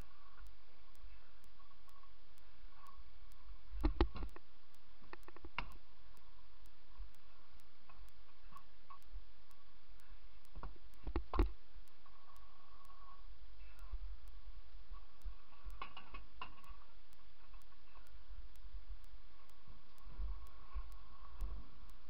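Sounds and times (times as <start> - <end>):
faint regular ticking: 0.0 - 22.0.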